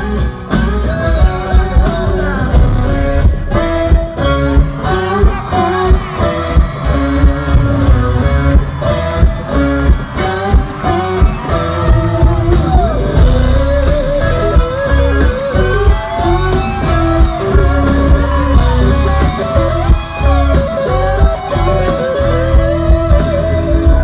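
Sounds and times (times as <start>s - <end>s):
electric guitars: 0.0s - 24.0s
live country band playing: 0.0s - 24.0s.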